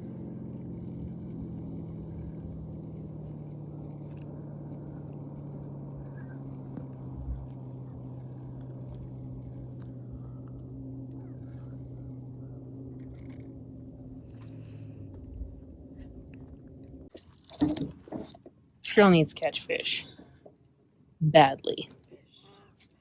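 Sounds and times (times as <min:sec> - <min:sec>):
boat motor humming: 0:00.0 - 0:20.7.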